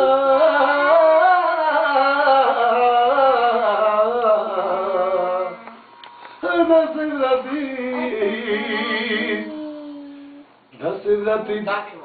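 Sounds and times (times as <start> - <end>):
man singing: 0.0 - 5.8, 6.4 - 11.8.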